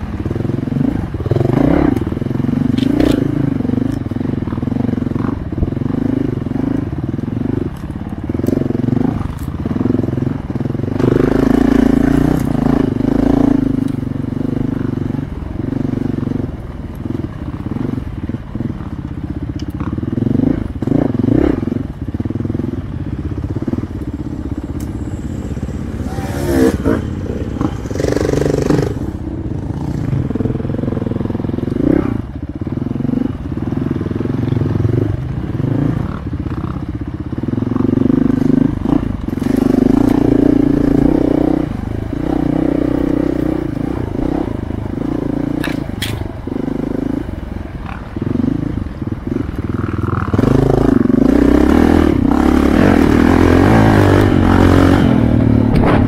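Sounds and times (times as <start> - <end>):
dirt bike engine revving: 0.0 - 18.8, 19.8 - 56.0.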